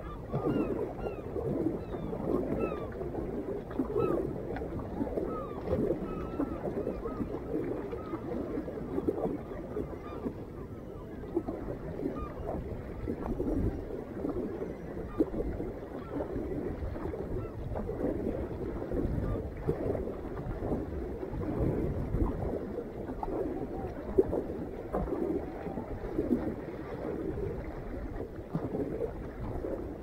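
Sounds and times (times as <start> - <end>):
water splashing around a kayak: 0.0 - 30.0.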